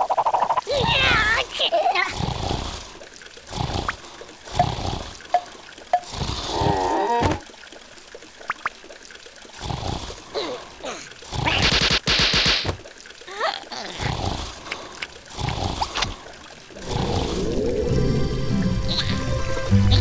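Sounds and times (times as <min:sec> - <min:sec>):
liquid trickling and pouring: 0:00.0 - 0:20.0.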